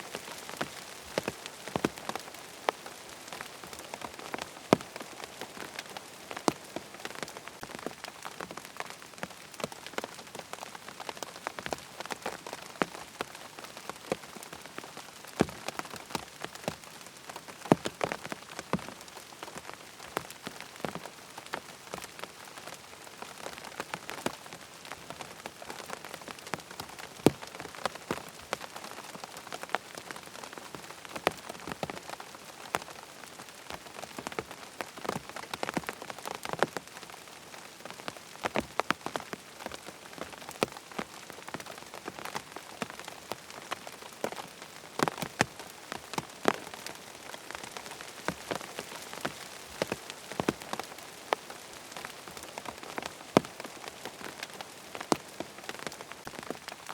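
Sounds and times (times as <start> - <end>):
rain falling on a tent: 0.0 - 56.9.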